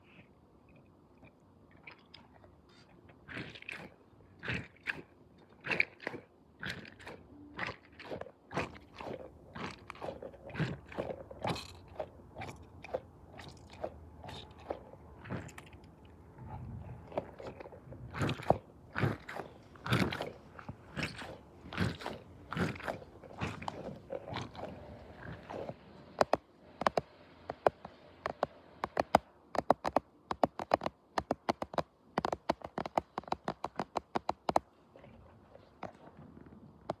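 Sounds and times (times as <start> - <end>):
close-up crunching: 3.3 - 37.0.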